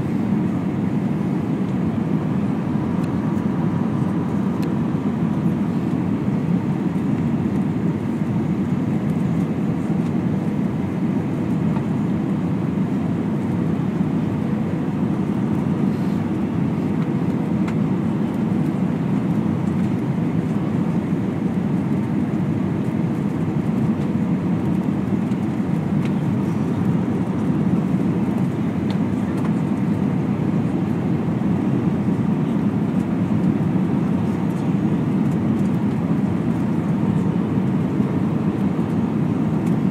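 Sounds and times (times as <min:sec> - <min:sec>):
airplane cabin airflow and engine noise: 0:00.0 - 0:39.9
faint steady whine: 0:00.0 - 0:39.9.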